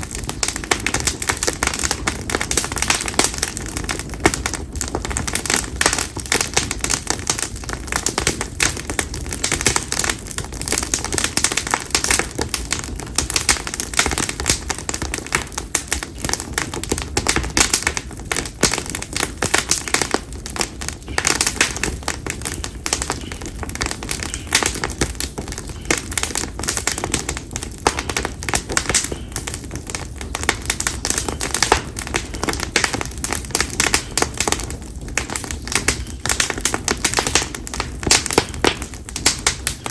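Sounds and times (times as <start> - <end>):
bonfire crackling: 0.0 - 39.9
low fire rumble: 0.0 - 39.9.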